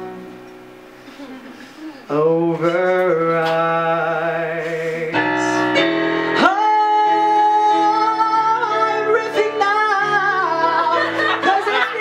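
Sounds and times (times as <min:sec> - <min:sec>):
keyboard accompaniment: 0:00.0 - 0:12.0
man singing: 0:02.0 - 0:12.0.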